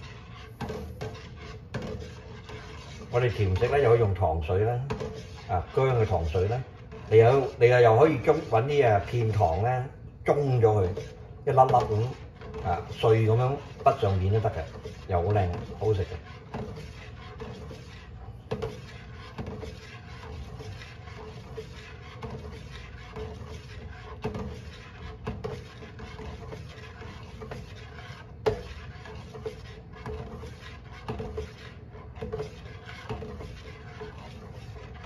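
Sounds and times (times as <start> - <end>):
spoon scraping metal pot: 0.0 - 35.0.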